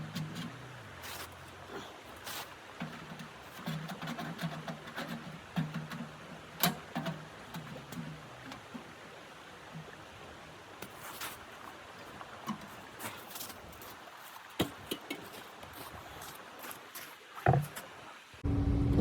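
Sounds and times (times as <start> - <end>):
faint steady hiss: 0.0 - 18.4.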